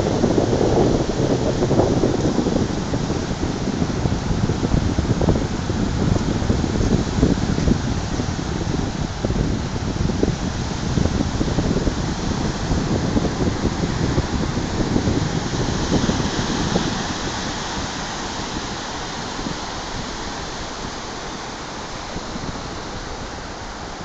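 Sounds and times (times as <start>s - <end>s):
sea surf washing ashore: 0.0s - 24.0s
wind buffeting microphone: 0.0s - 24.0s.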